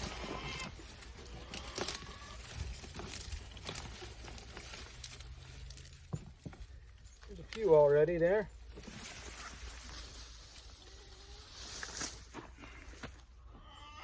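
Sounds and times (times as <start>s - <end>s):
leaves and stems rustling: 0.0s - 13.2s.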